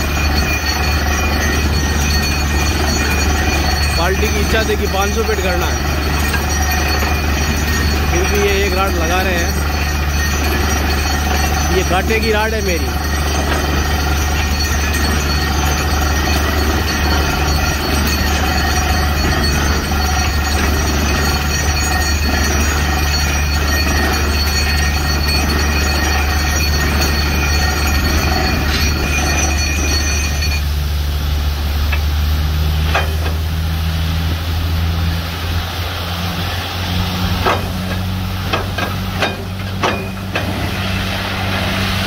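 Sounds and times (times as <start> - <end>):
drilling rig heavy drone: 0.0 - 42.0
high metallic whine: 0.0 - 42.0.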